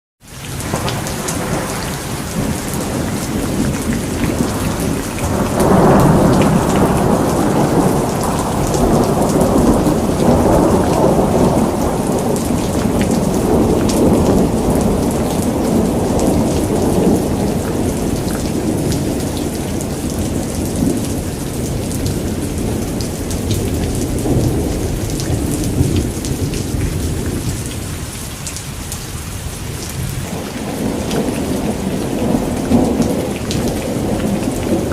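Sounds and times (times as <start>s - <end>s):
rain patter: 0.2s - 34.9s
rolling thunder rumble: 0.6s - 28.4s, 29.4s - 34.9s.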